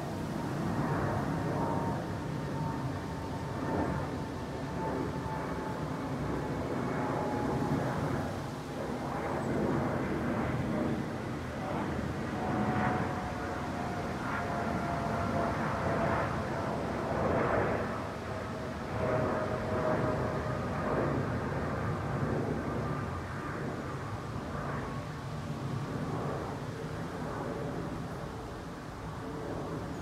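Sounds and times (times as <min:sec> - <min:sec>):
jet engines rumbling overhead: 0:00.0 - 0:30.0.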